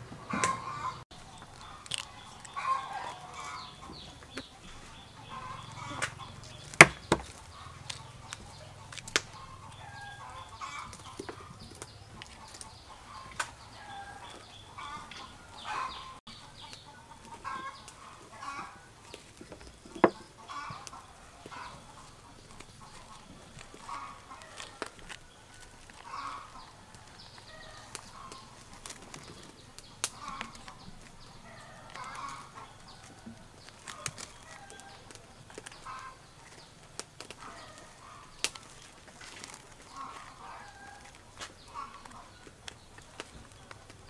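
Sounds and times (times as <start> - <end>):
hens clucking: 0.0 - 44.0.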